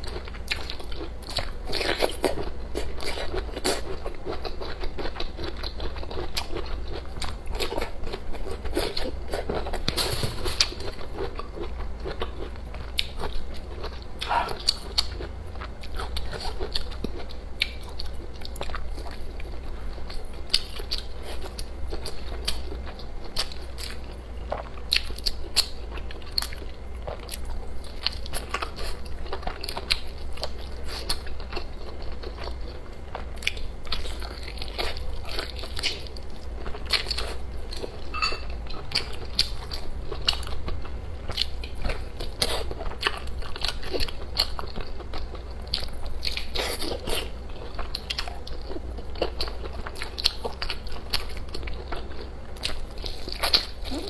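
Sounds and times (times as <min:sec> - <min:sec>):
low steady hum: 0:00.0 - 0:54.0
person chewing food: 0:00.0 - 0:54.0.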